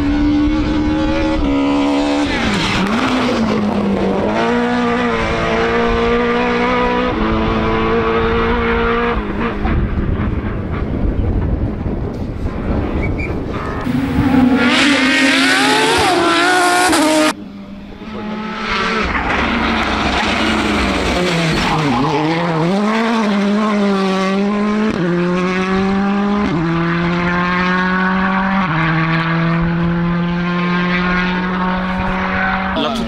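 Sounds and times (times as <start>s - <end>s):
car accelerating through gears: 0.0s - 10.9s, 13.6s - 33.0s
rally car engine revving: 0.0s - 11.8s, 12.4s - 33.0s.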